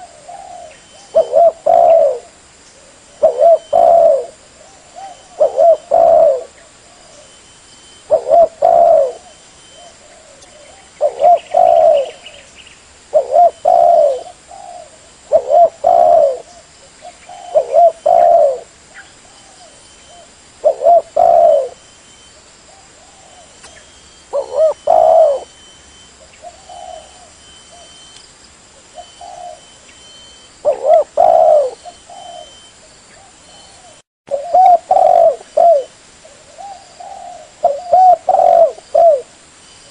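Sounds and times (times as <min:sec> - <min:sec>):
dove cooing: 0:00.0 - 0:07.4, 0:08.0 - 0:12.5, 0:13.1 - 0:21.8, 0:22.7 - 0:28.2, 0:28.8 - 0:39.3.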